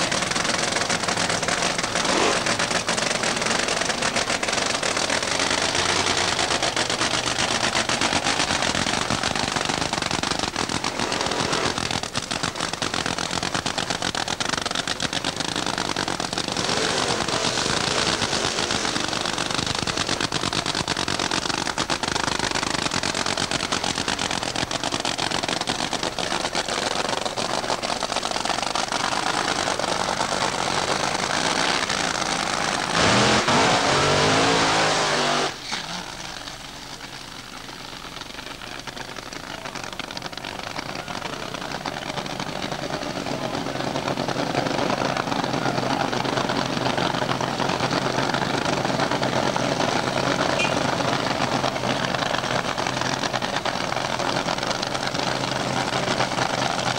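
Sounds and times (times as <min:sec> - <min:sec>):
drag racing engine crackling: 0:00.0 - 0:56.9.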